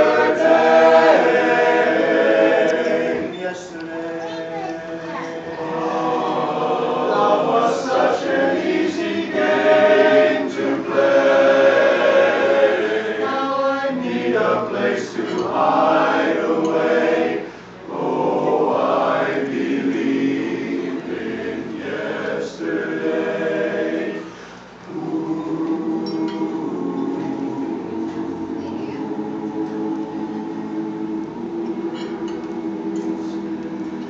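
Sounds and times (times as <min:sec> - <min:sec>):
men's chorus singing a cappella: 0:00.0 - 0:34.0.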